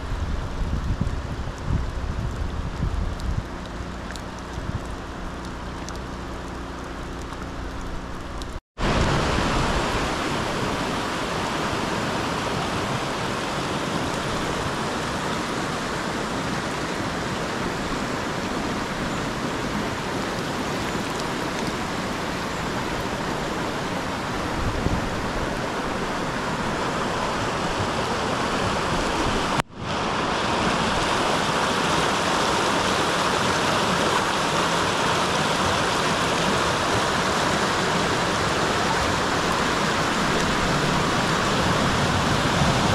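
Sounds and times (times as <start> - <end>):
floodwater rushing in a creek: 0.0 - 42.9.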